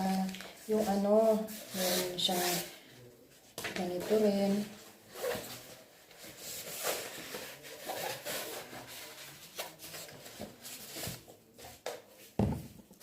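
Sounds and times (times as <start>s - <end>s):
paper and plastic rustling: 0.0s - 13.0s.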